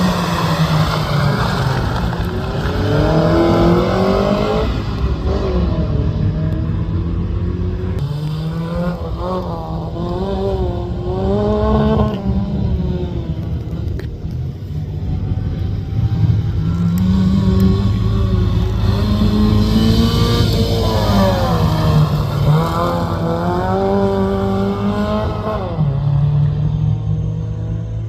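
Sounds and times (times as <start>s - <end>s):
rally car engine accelerating: 0.0s - 28.0s.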